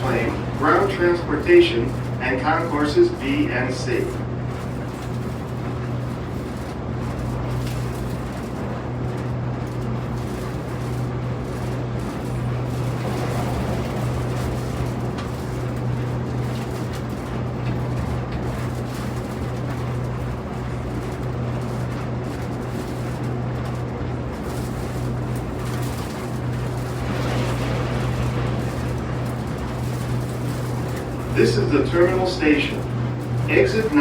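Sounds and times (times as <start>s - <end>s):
tram running hum and rumble: 0.0s - 34.0s.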